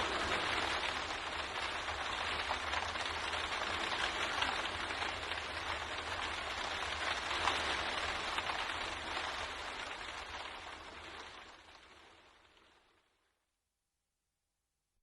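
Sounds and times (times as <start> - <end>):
rain pattering on window: 0.0 - 13.4.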